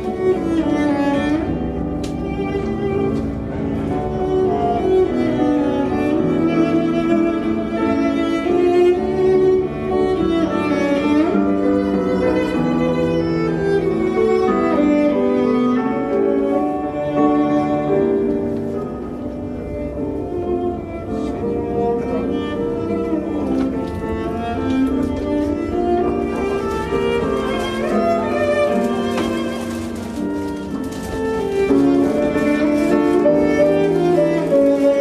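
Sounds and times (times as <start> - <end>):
bowed string instruments: 0.0 - 35.0.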